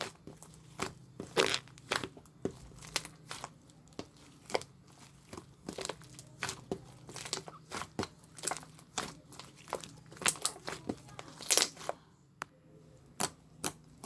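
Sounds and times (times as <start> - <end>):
slime crackling and popping: 0.0 - 12.0, 13.2 - 14.0.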